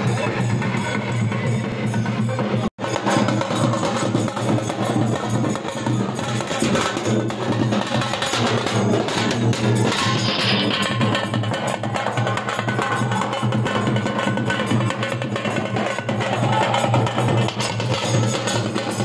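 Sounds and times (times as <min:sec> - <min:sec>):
drums beaten with sticks: 0:00.0 - 0:19.0.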